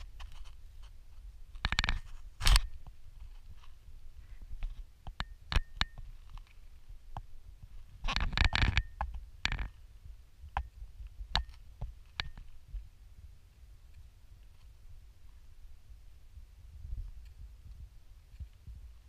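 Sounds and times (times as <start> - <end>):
twigs and dry leaves rustling: 0.0 - 19.0.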